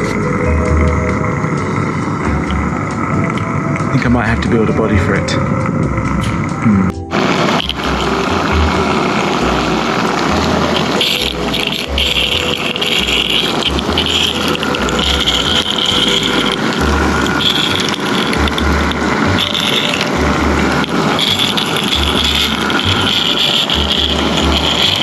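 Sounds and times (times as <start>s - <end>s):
high motor whine: 0.0s - 25.0s
model train rattling and rumbling: 0.0s - 25.0s.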